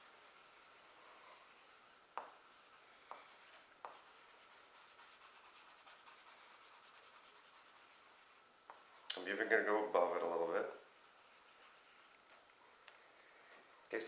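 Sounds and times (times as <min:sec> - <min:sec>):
eraser rubbing on paper: 0:00.0 - 0:12.2.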